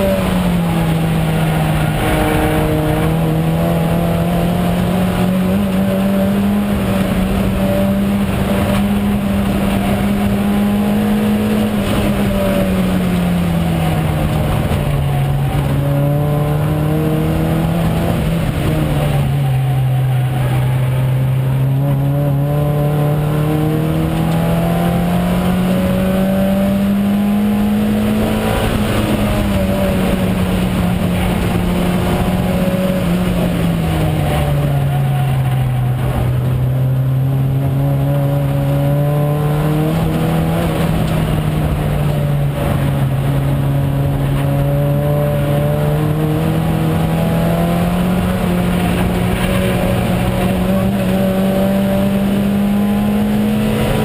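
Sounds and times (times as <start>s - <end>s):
race car engine running: 0.0s - 54.0s
road and wind rush: 0.0s - 54.0s.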